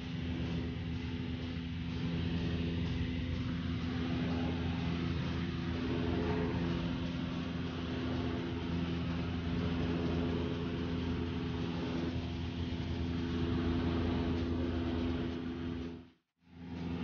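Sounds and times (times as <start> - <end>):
rushing air noise: 0.0 - 16.0
plane engine drone: 0.0 - 17.0.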